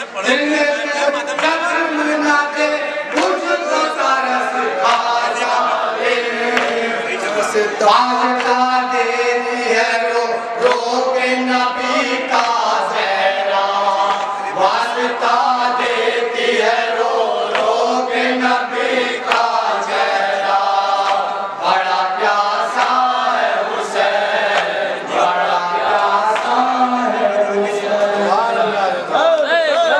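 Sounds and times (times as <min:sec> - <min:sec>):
men chanting into microphones: 0:00.0 - 0:29.9.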